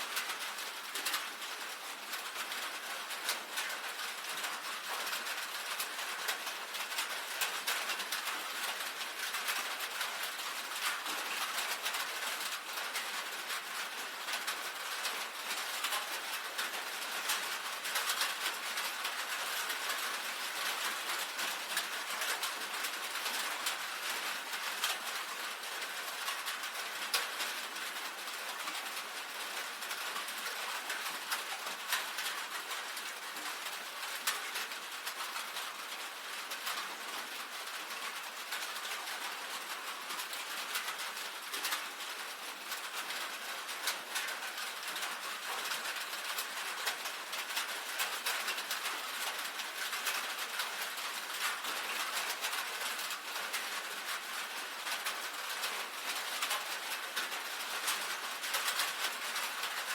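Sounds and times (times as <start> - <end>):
rain on a tin roof: 0.0 - 59.9.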